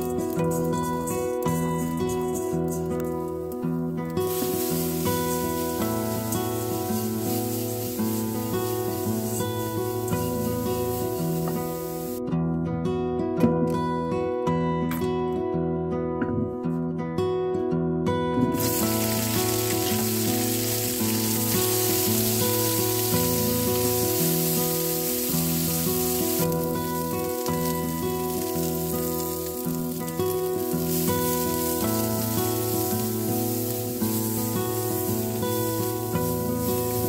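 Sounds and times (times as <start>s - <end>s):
peppers sizzling in hot oil: 0.0s - 12.2s, 18.6s - 37.0s
acoustic guitar music: 0.0s - 37.0s.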